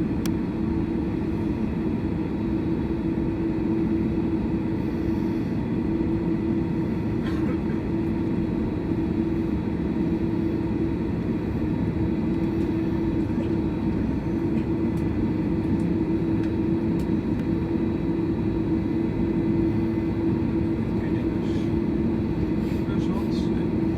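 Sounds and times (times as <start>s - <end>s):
airliner cabin engine drone: 0.0s - 23.9s.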